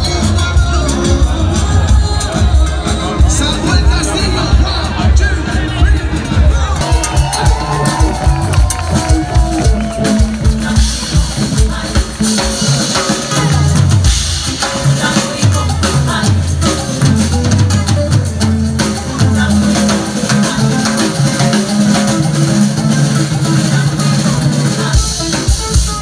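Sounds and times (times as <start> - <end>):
bass drum and snare beat: 0.0 - 26.0
live rock band playing: 0.0 - 26.0.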